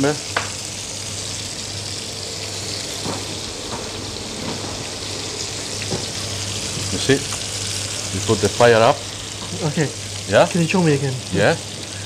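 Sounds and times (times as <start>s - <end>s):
steak sizzling in a grill pan: 0.0s - 12.0s.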